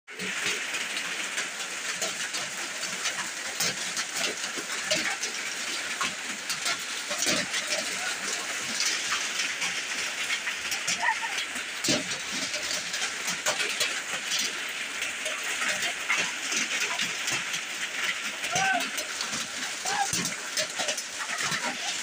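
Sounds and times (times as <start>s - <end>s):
rain pouring: 0.1s - 22.0s
raindrops ticking: 0.1s - 22.0s.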